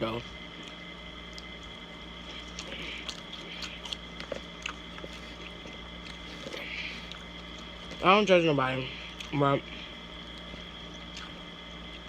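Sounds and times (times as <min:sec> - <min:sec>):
chewing salad with crisp crunches: 0:00.5 - 0:08.1, 0:09.1 - 0:09.4, 0:10.2 - 0:12.0.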